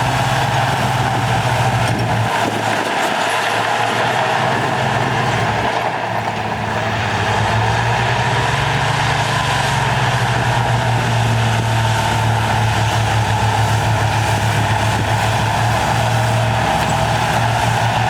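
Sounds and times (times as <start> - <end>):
heavy diesel machinery drone: 0.0 - 18.0.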